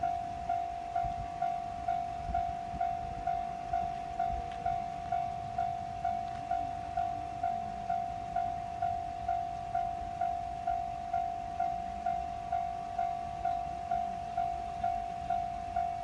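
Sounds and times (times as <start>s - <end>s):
level crossing warning bell ringing: 0.0s - 16.0s.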